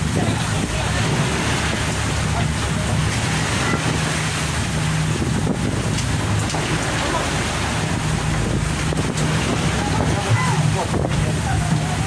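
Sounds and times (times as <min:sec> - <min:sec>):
boat engine droning: 0:00.0 - 0:12.0
sea rushing: 0:00.0 - 0:12.0
wind noise on microphone: 0:00.0 - 0:12.0.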